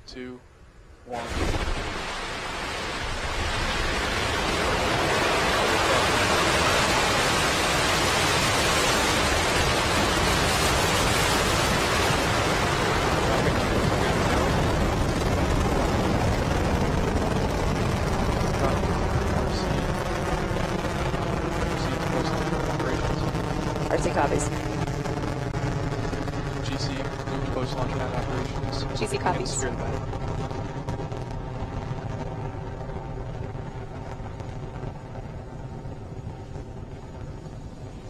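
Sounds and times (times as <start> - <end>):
rocket engines rushing rumble: 1.1 - 38.0.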